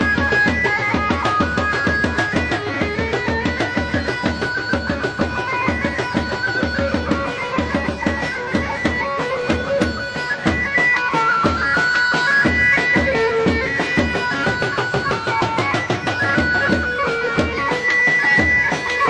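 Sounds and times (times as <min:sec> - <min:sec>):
shrill reedy wind melody: 0:00.0 - 0:19.0
steady drum beat: 0:00.0 - 0:19.0.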